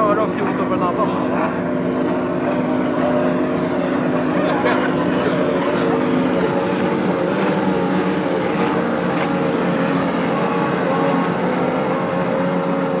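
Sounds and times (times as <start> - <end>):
powerboat engine at high speed: 0.0 - 13.0
water wash: 0.0 - 13.0.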